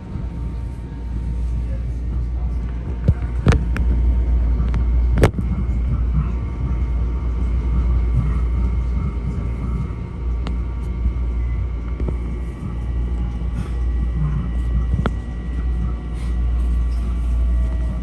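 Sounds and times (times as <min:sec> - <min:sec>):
railcar rumble and hum: 0:00.0 - 0:18.0.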